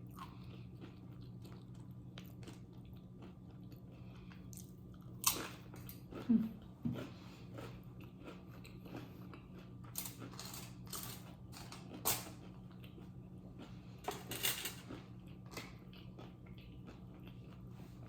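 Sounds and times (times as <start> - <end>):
person chewing food: 0.0 - 14.1, 14.8 - 18.0
steady low hum: 0.0 - 18.0.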